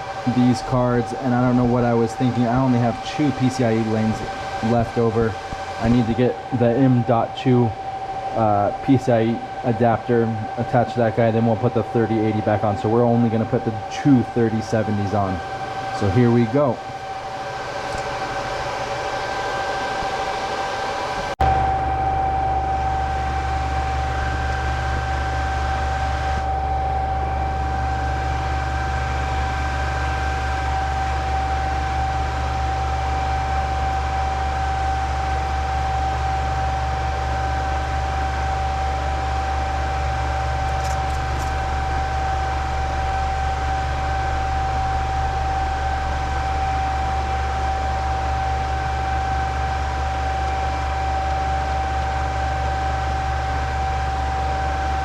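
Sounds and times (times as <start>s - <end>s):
cooling fans whirring: 0.0s - 55.0s
high whine: 0.0s - 55.0s.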